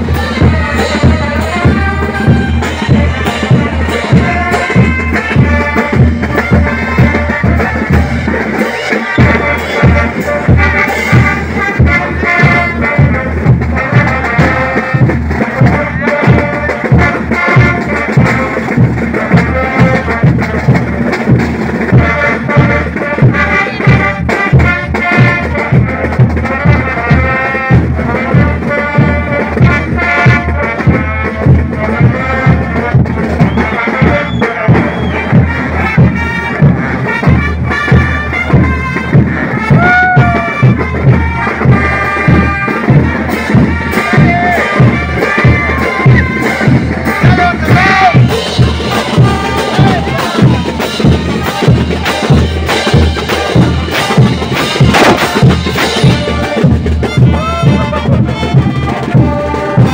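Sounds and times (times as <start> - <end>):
brass band music: 0.0 - 59.9
steady drum beat: 0.0 - 59.9.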